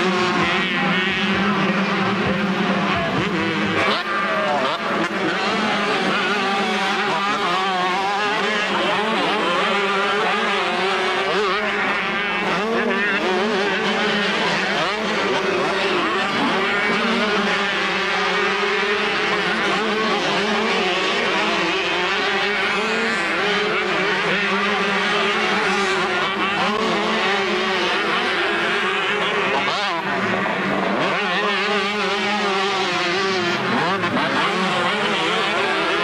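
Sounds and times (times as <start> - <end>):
motocross bikes revving: 0.0 - 36.0.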